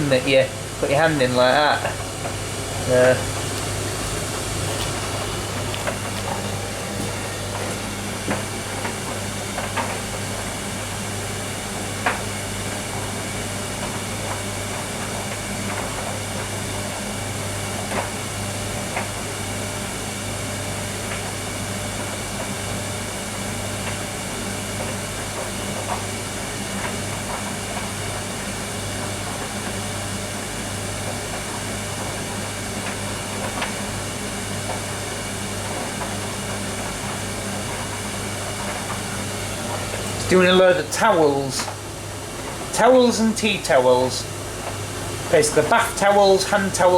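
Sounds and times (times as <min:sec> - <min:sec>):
tumble dryer humming: 0:00.0 - 0:46.9.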